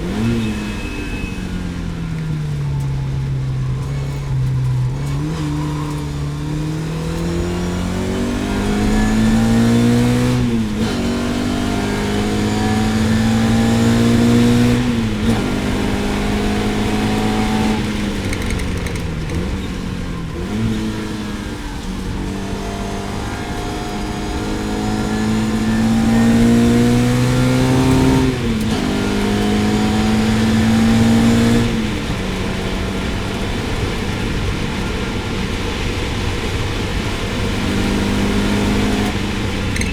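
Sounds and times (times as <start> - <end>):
race car engine through gears: 0.0 - 39.9.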